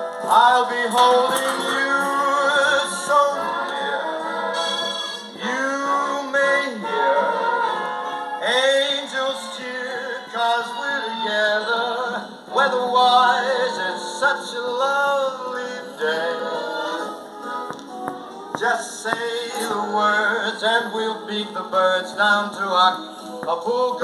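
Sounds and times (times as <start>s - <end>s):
man crooning swing pop song: 0.0s - 24.0s.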